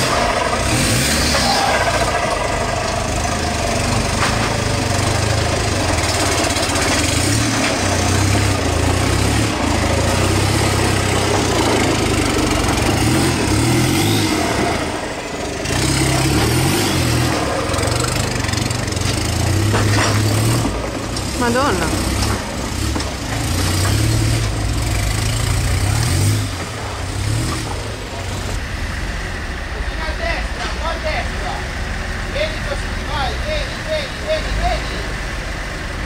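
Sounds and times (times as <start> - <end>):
off-road vehicle engine low revs: 0.0 - 36.0.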